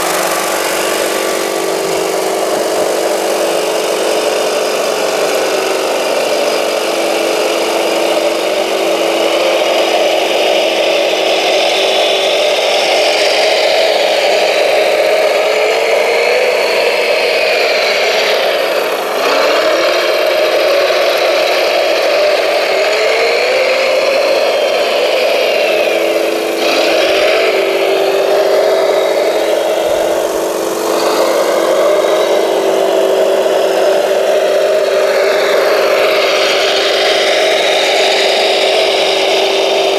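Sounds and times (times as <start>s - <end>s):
model loader motor whining: 0.0s - 39.9s.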